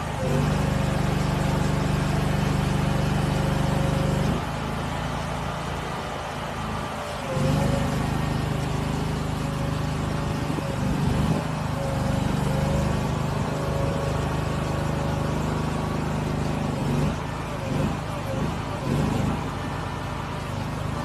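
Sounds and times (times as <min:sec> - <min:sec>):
heavy machinery engine running: 0:00.0 - 0:21.0.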